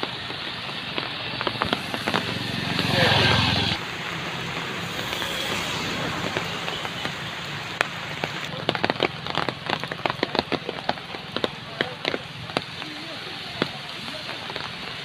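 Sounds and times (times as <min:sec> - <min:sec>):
heavy rain hissing: 0:00.0 - 0:15.0
raindrops tapping a surface: 0:00.0 - 0:15.0.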